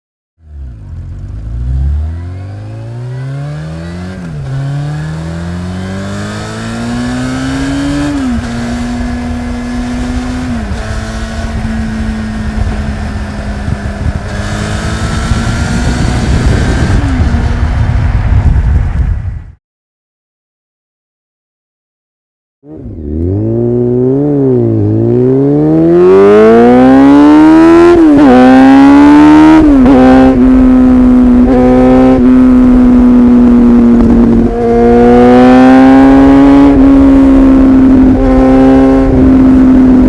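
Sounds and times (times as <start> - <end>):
motorcycle engine accelerating: 0.4 - 19.6, 22.6 - 40.0.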